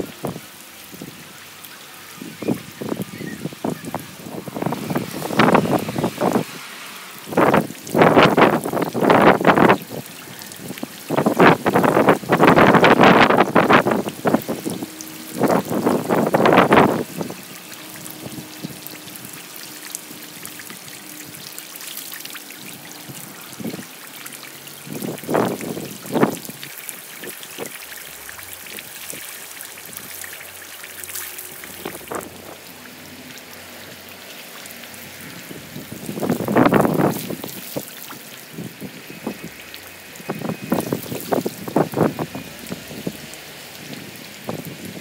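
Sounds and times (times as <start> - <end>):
rain falling: 0.0 - 45.0
rainwater trickling: 0.0 - 45.0
water splashing: 0.0 - 45.0.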